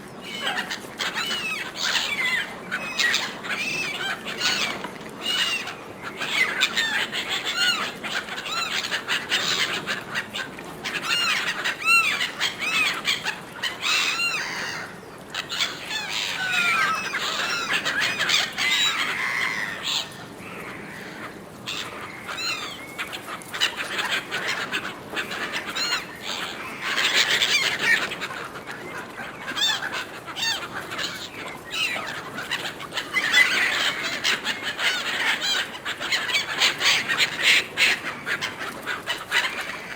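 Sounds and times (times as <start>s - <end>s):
gulls squawking: 0.2s - 39.9s.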